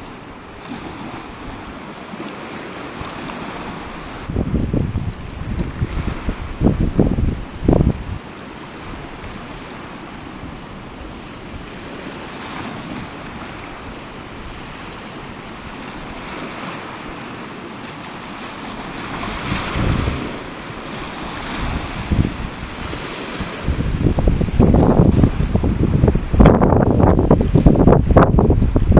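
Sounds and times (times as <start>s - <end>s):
waves washing on pebble shore: 0.0s - 28.2s
wind gusting on microphone: 0.0s - 28.9s.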